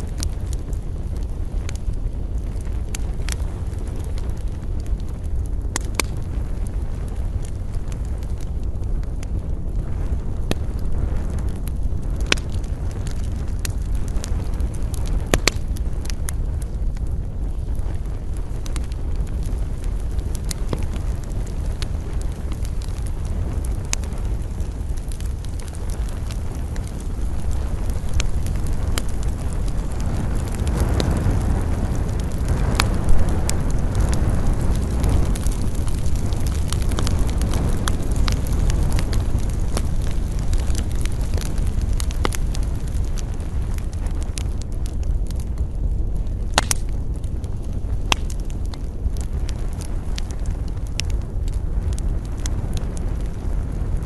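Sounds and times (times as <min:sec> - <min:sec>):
campfire crackling and popping: 0:00.0 - 0:54.0
steady low rumble: 0:00.0 - 0:54.0
wind rushing through pines: 0:00.0 - 0:54.0.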